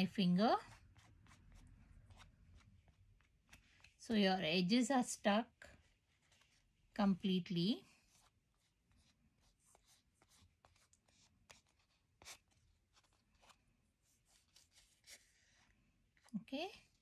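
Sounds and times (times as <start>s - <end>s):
paper and card handled: 0.6s - 4.0s, 5.7s - 6.9s, 7.8s - 17.0s.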